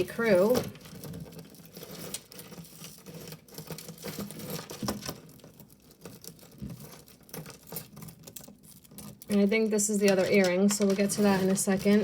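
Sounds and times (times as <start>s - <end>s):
jewelry clicking and clinking: 0.0s - 12.0s.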